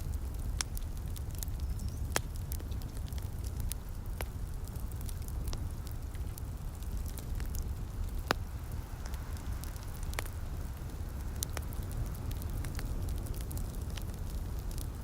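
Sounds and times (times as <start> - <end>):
light rain hissing: 0.0 - 15.0
wood fire crackling and popping: 0.0 - 15.0.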